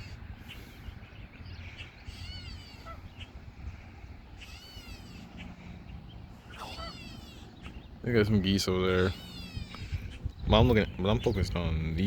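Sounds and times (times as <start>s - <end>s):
bird crying: 0.0s - 10.5s
steady low rumble: 0.0s - 12.0s.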